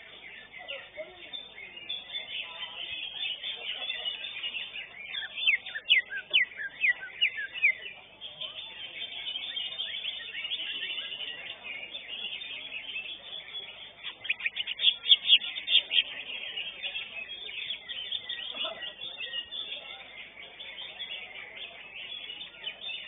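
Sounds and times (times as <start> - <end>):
birds chattering: 0.0 - 23.0.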